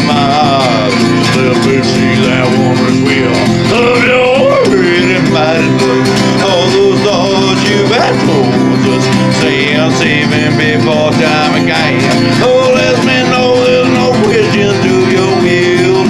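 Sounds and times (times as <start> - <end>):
sliding wavering lead melody: 0.9 - 16.0.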